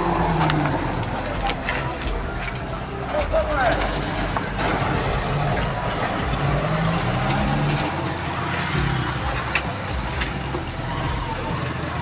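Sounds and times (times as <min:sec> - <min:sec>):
motorcycle engines: 0:00.0 - 0:12.0
pickup truck driving past: 0:00.0 - 0:12.0.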